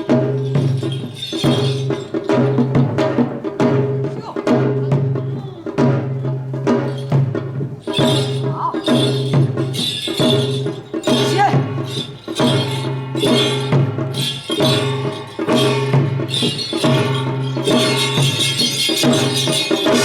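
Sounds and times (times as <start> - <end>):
drums beating: 0.0 - 20.0.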